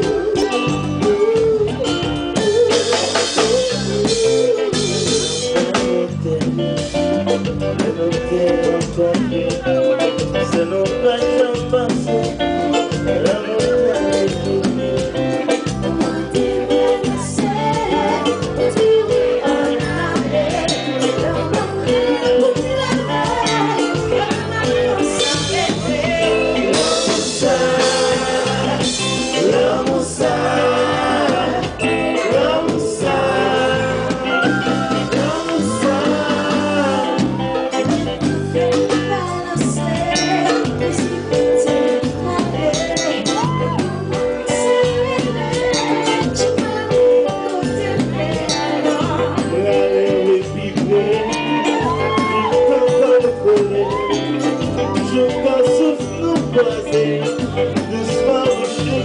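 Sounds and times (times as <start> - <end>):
woman singing into microphone: 0.0 - 7.0, 7.8 - 59.0
bass: 0.0 - 59.0
drum kit: 0.0 - 59.0
gliding melody line: 0.0 - 59.0
live band playing: 0.0 - 59.0
man singing into microphone: 0.0 - 59.0.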